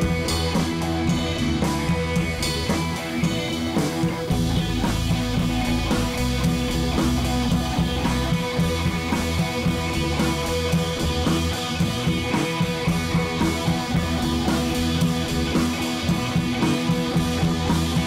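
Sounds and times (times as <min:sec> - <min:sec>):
rock music with guitar and drums: 0:00.0 - 0:18.0.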